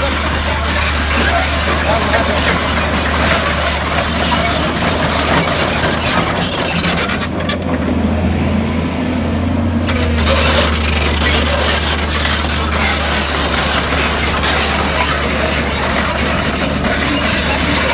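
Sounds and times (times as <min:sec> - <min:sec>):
diesel engine droning: 0:00.0 - 0:17.9.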